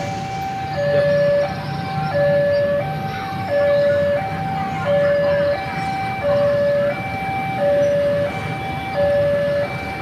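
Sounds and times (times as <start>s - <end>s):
level crossing two-tone alarm: 0.0s - 10.0s
low rumble of road traffic: 0.0s - 10.0s.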